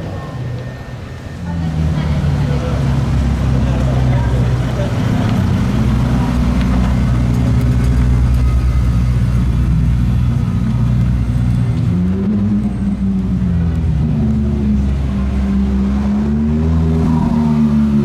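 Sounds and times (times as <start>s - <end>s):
sports car engine rumbling: 0.0s - 18.0s.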